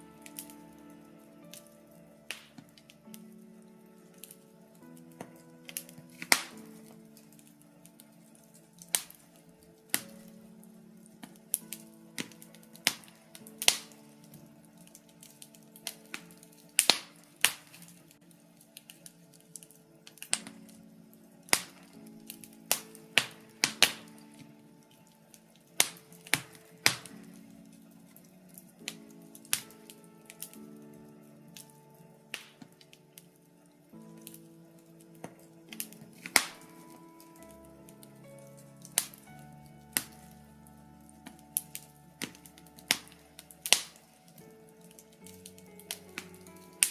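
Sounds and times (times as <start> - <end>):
logs crackling and popping: 0.0 - 46.9
soft background music: 0.0 - 46.9.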